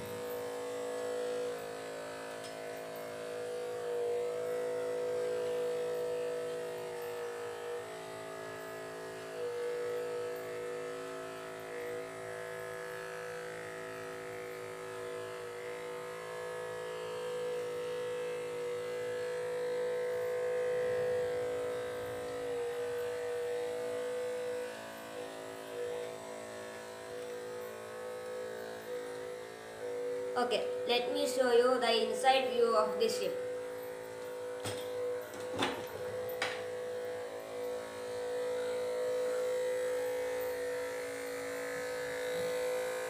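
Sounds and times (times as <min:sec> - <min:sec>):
small motor buzzing whine: 0:00.0 - 0:43.0.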